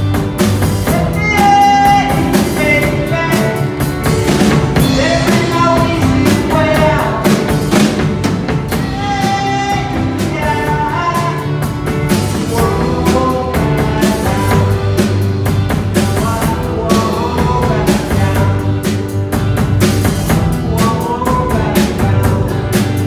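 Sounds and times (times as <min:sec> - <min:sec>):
drum kit beat: 0:00.0 - 0:23.0
live rock band playing: 0:00.0 - 0:23.0.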